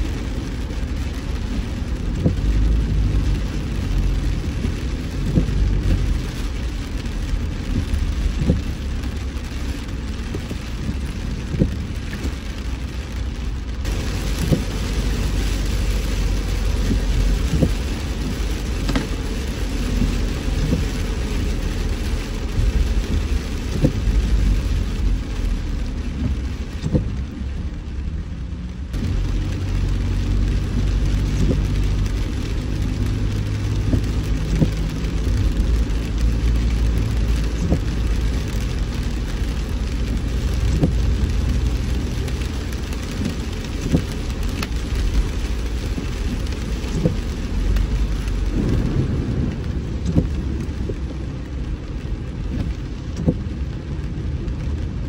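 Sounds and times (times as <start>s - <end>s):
rain hiss on car: 0.0s - 55.0s
raindrops tapping: 0.0s - 55.0s
road and engine rumble: 0.0s - 55.0s.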